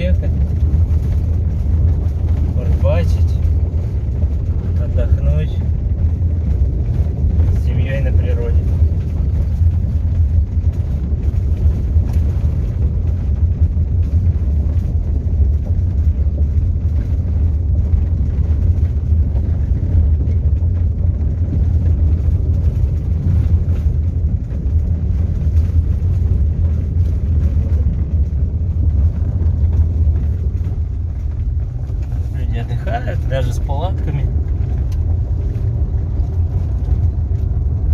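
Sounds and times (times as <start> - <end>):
car driving on gravel road: 0.0 - 37.9.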